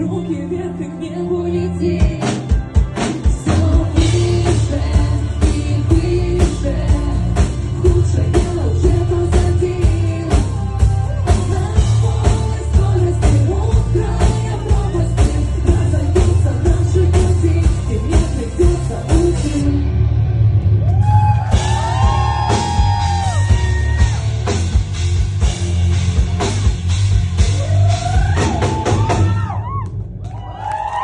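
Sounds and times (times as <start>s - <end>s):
rock band playing: 0.0s - 30.9s
sustained bass line: 0.0s - 31.0s
steady drum beat: 2.0s - 19.6s, 21.3s - 29.8s.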